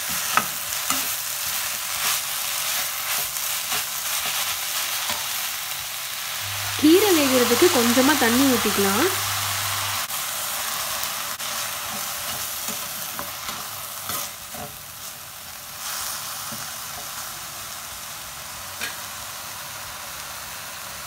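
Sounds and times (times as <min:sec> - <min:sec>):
leaves sizzling in oil: 0:00.0 - 0:21.0.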